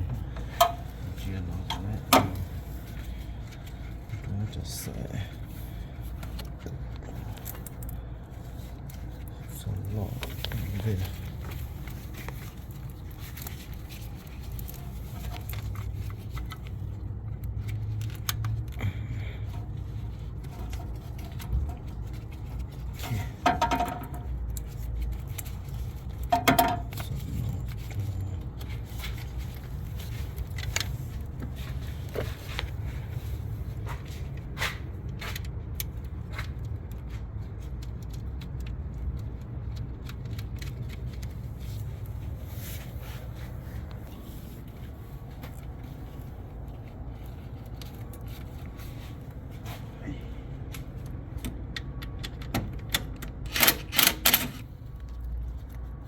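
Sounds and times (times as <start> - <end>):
steady low hum: 0.0 - 53.5.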